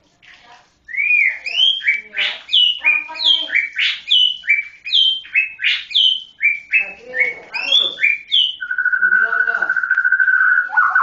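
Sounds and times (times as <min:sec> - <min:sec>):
bird singing whistled phrases: 0:00.9 - 0:11.0.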